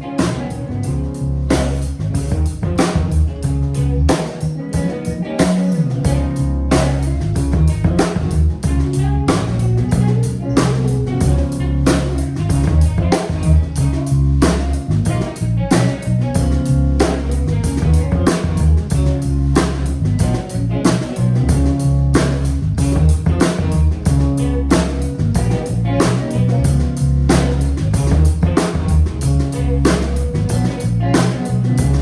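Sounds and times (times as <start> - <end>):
drum kit beat: 0.0 - 32.0
guitar: 0.0 - 32.0.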